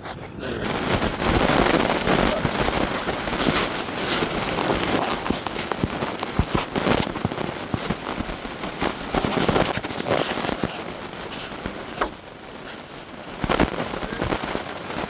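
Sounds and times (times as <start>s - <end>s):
plastic clicks and crackles: 0.7s - 15.0s.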